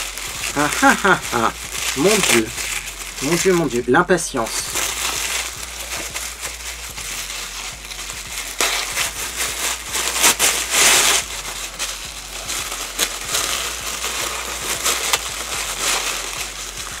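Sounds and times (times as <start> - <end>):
wrapping paper crinkling: 0.0 - 17.0.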